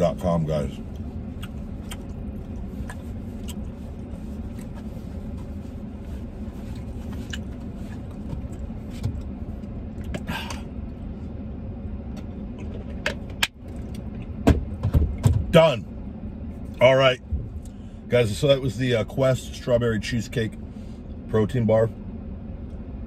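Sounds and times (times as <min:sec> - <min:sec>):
truck idling: 0:00.0 - 0:23.0.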